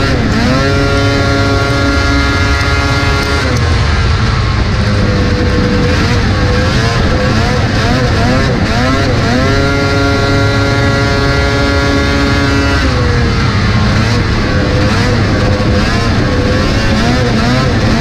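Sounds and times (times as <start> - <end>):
snowmobile engine racing: 0.0 - 18.0
wind on microphone: 0.0 - 18.0.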